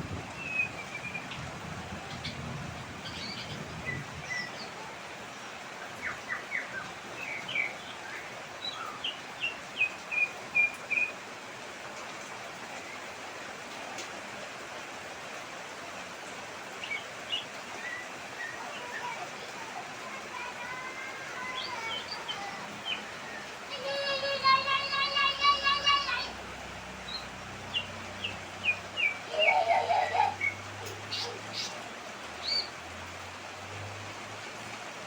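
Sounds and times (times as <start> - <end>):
rain hiss: 0.0 - 35.0.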